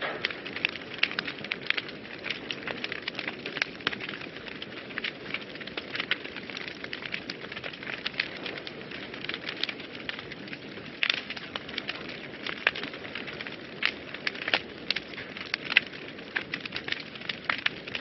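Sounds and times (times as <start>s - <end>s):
fire crackling and popping: 0.0s - 18.0s
fireplace fire hissing: 0.0s - 18.0s.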